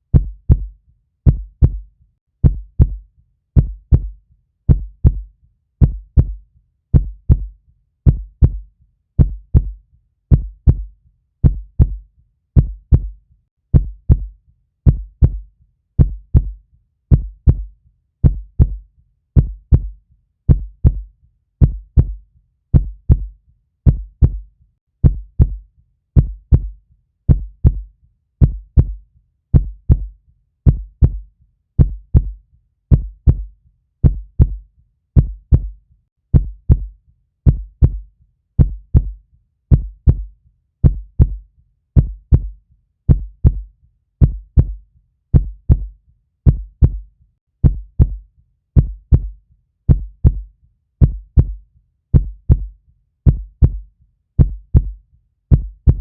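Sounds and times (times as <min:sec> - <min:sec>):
heartbeat lub-dub: 0:00.1 - 0:56.0.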